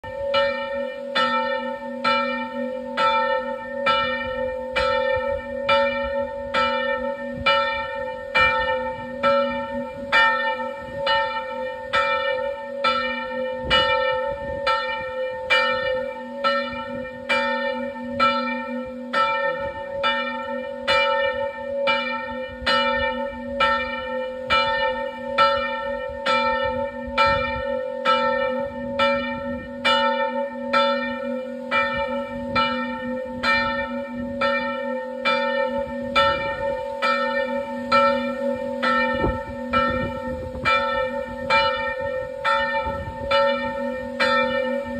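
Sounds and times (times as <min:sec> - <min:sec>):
church bells ringing: 0:00.0 - 0:44.9.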